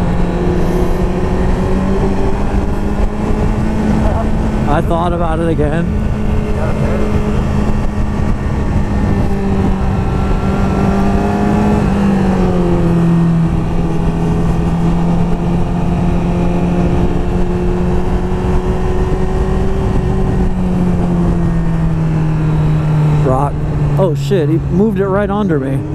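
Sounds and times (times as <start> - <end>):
vehicle engine running: 0.0 - 25.9.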